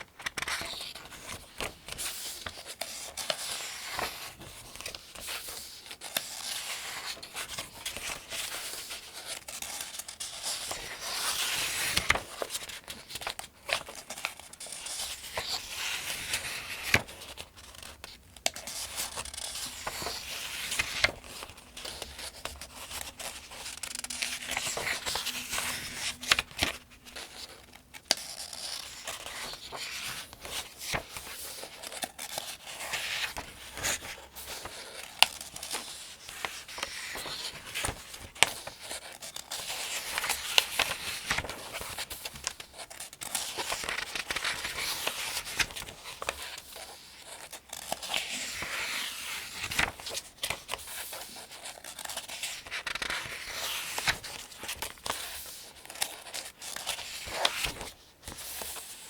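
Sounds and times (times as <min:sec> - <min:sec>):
paper pages turning: 0:00.0 - 0:59.0.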